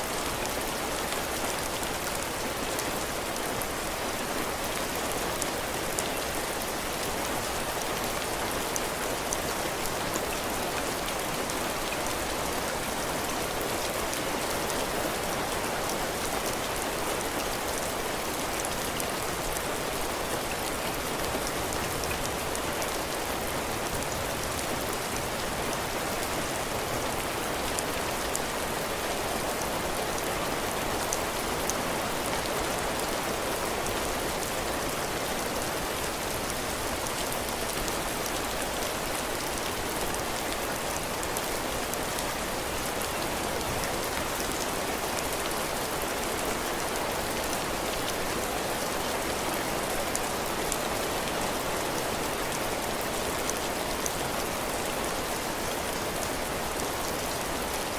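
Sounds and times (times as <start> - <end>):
heavy rain on a roof: 0.0 - 57.9.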